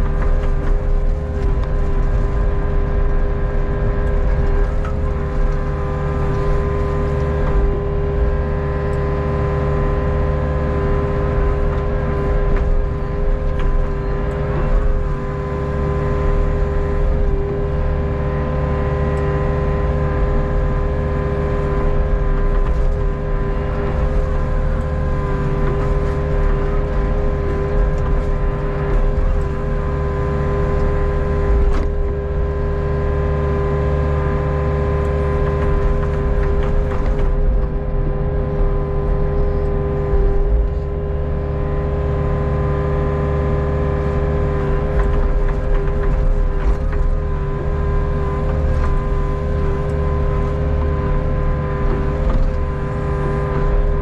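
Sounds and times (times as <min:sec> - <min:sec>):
excavator diesel engine running: 0:00.0 - 0:54.0
hydraulic whine: 0:00.0 - 0:54.0.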